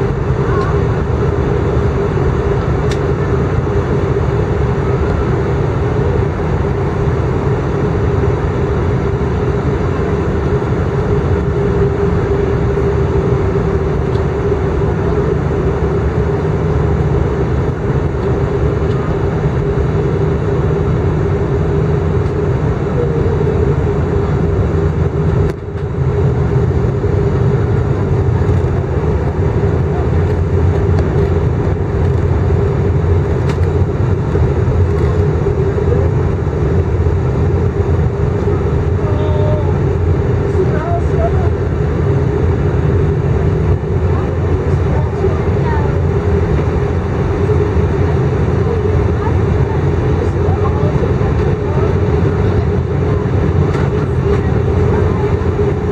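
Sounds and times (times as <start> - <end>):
jet engines and airflow droning: 0.0 - 55.9
steady cabin hum: 0.0 - 55.9.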